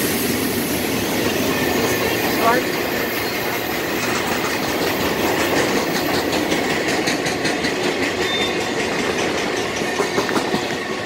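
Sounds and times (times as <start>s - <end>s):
freight train wheels clicking: 0.0s - 11.0s.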